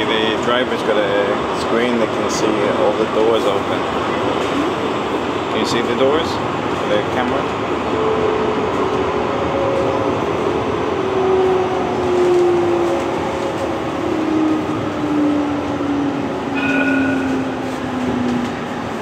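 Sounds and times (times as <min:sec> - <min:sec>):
metro car wheels rumbling: 0:00.0 - 0:19.0.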